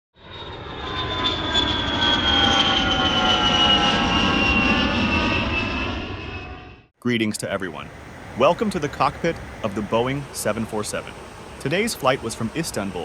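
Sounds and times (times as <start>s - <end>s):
jet engines whining: 0.2s - 13.0s.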